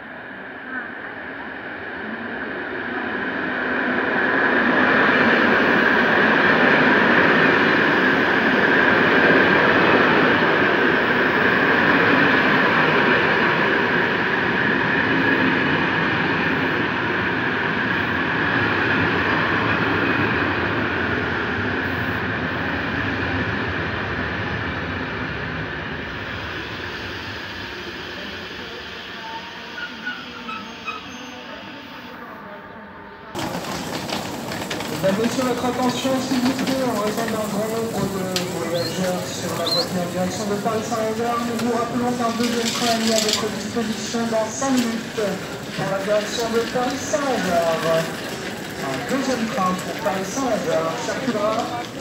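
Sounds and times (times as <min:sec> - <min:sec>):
passenger train passing: 0:00.0 - 0:52.0
wheel and rail noise: 0:00.0 - 0:52.0.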